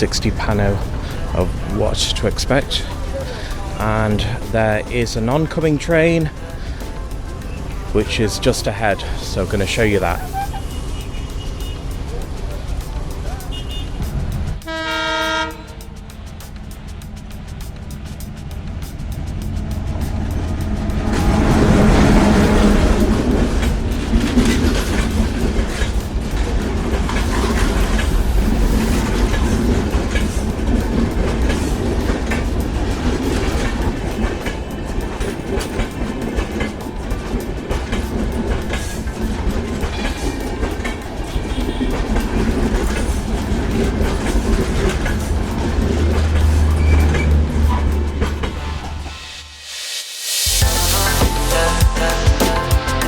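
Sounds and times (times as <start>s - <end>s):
train wheels clattering on rails: 0.0s - 49.0s.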